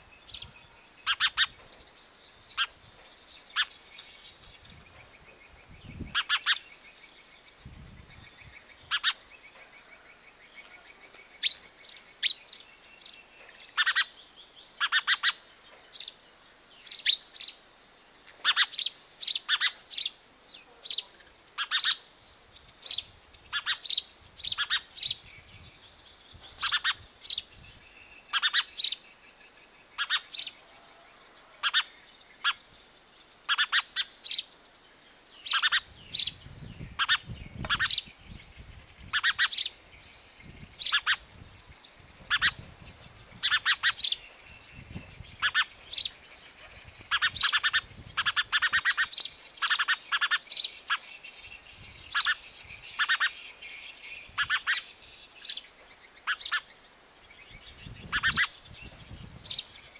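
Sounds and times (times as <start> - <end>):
sparrow chirping: 0.0 - 30.7, 31.6 - 59.9.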